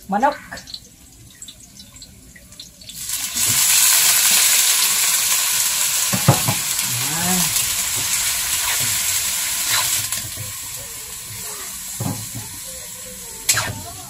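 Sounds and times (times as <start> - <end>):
chicken sizzling in hot oil: 0.6 - 14.0.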